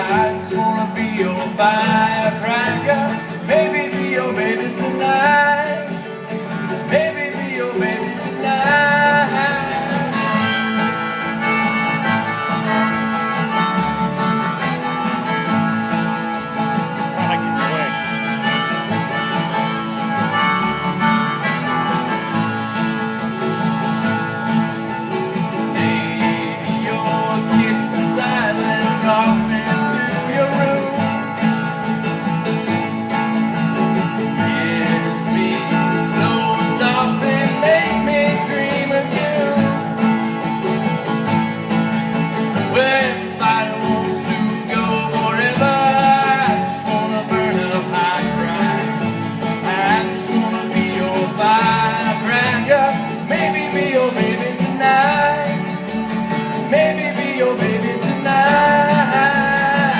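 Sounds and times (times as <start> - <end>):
harmonica lead: 0.0 - 59.9
strummed acoustic guitar: 0.0 - 59.9.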